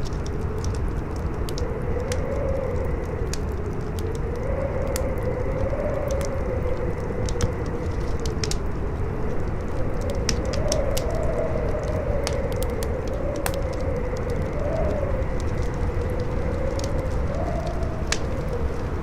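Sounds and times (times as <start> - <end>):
campfire crackling and popping: 0.0 - 19.0
howling wind: 0.0 - 19.0.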